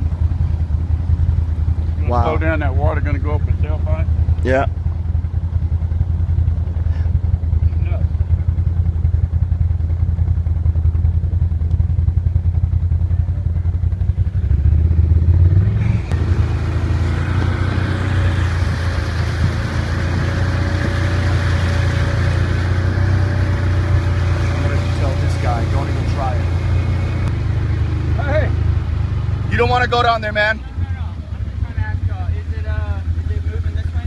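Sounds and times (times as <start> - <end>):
engine low rumble: 0.0 - 34.0.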